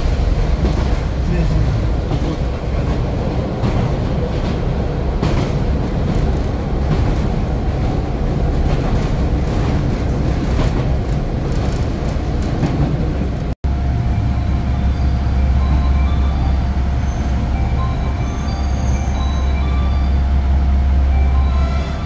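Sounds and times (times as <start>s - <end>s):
diesel train rumbling: 0.0s - 22.0s.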